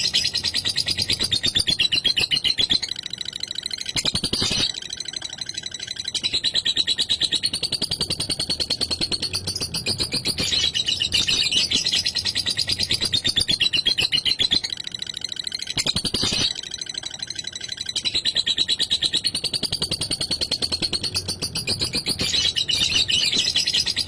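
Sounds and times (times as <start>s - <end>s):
lovebird chattering: 0.0s - 24.0s.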